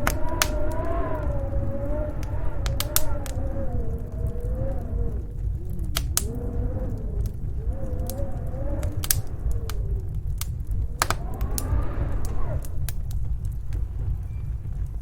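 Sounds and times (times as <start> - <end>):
low steady rumble: 0.0 - 15.0
wind howling: 0.0 - 15.0
wood fire crackling: 0.0 - 15.0.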